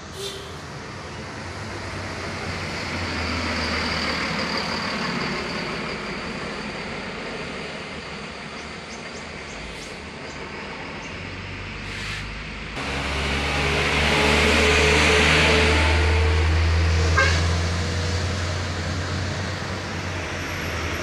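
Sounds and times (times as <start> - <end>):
bus engine hum: 0.0 - 21.0.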